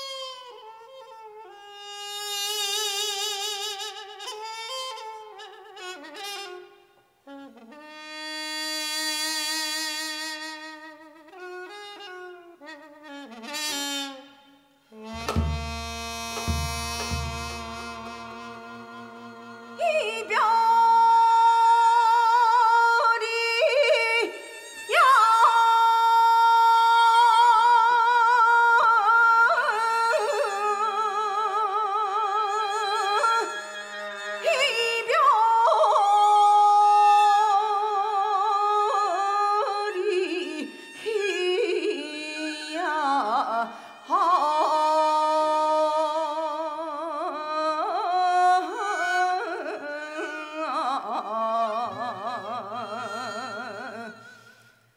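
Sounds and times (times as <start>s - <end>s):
traditional ensemble with vibrato melody: 0.0s - 54.9s.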